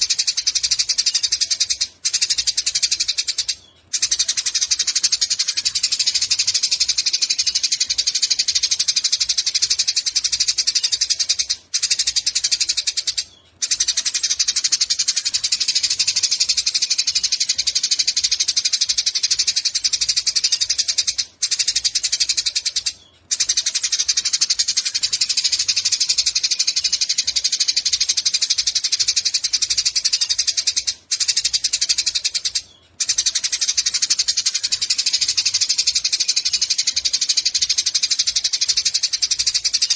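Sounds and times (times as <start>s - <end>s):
sparrow chirping rapidly: 0.0s - 39.9s.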